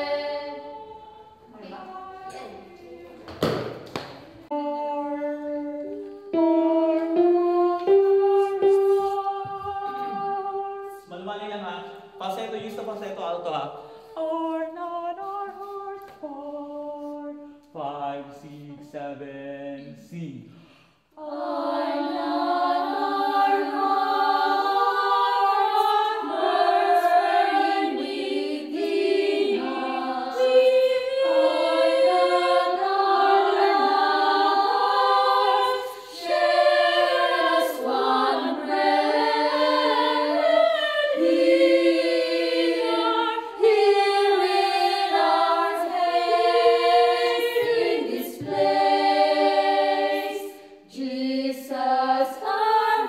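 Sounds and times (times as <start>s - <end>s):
choir singing a cappella: 0.0s - 53.0s.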